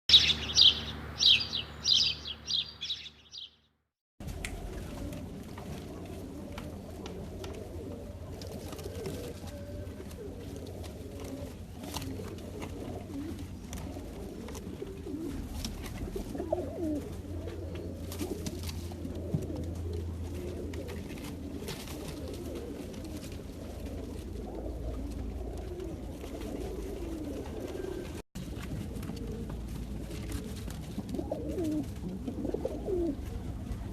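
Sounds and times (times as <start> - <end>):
pigeons cooing: 0.1 - 3.5, 4.3 - 33.9.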